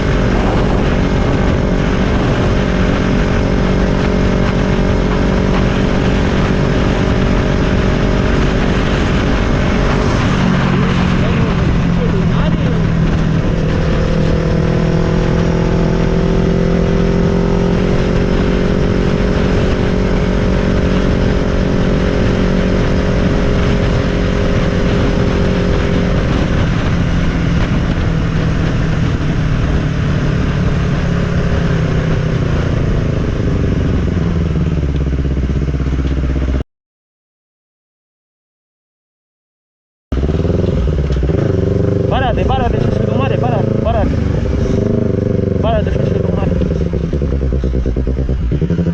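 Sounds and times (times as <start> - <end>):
motorcycle engine running: 0.0 - 36.6, 40.1 - 48.9.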